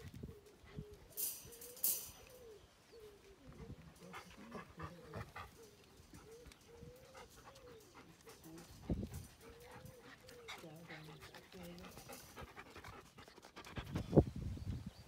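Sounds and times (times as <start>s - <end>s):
puppies whining and whimpering: 0.2s - 12.3s.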